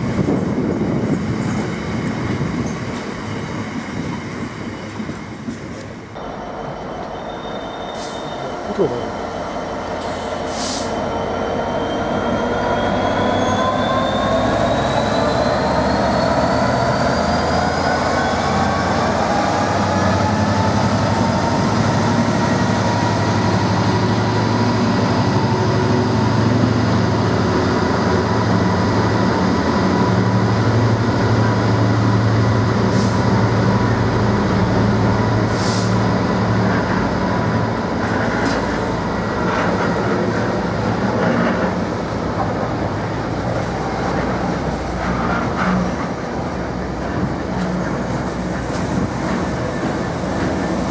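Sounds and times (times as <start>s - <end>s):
freight train rumbling: 0.0s - 50.9s.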